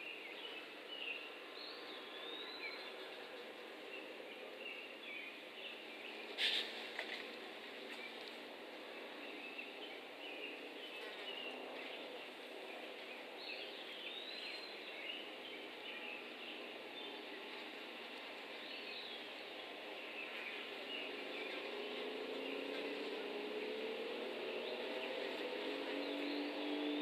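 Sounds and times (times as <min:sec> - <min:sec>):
small birds chirping: 0:00.0 - 0:27.0
steady outdoor hiss: 0:00.0 - 0:27.0.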